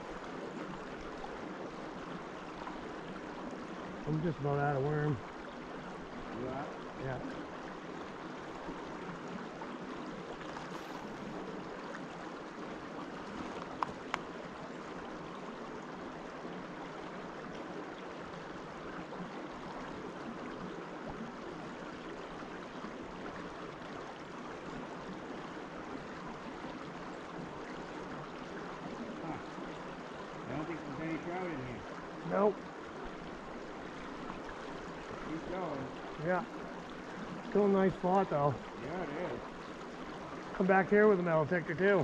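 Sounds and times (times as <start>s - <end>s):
brook water flowing: 0.0s - 42.0s.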